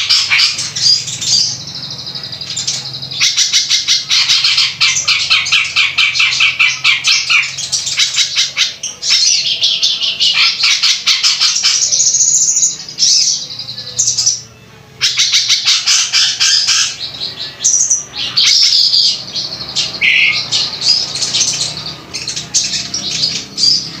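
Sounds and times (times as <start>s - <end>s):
harsh songbird calls: 0.0s - 24.0s.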